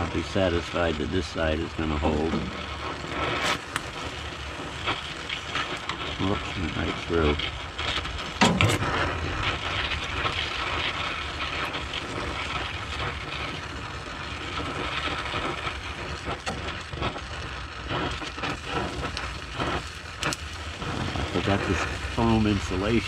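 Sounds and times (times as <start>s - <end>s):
arc welding crackle and pops: 0.0s - 23.0s.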